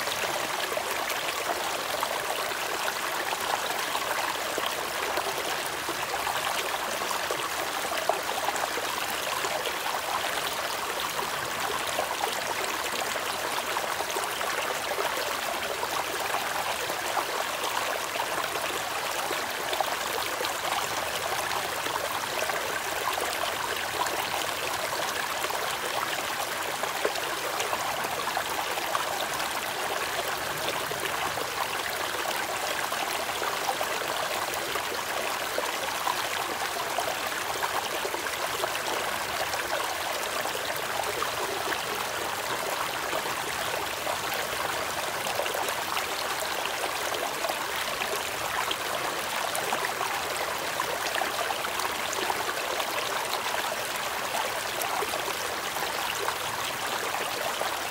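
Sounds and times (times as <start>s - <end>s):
stream rushing over boulders: 0.0s - 57.9s.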